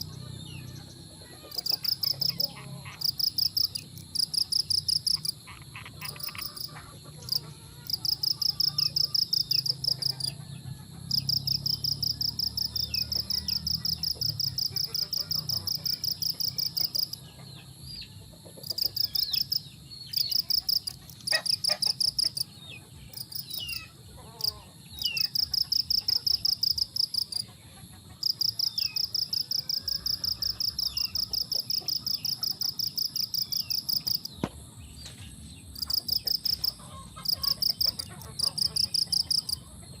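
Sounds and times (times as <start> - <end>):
insects trilling: 0.0 - 17.6, 18.6 - 34.5, 35.8 - 39.9.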